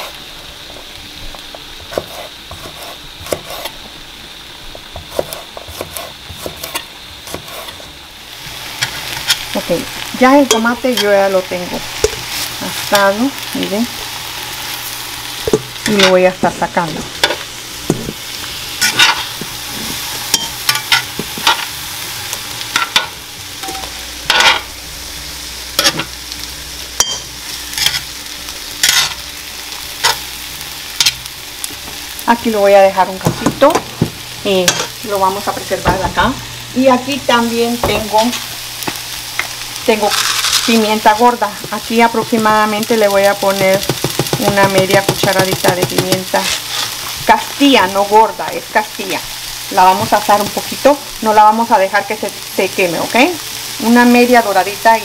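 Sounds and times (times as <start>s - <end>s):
vegetables sizzling in skillet: 0.0s - 55.0s.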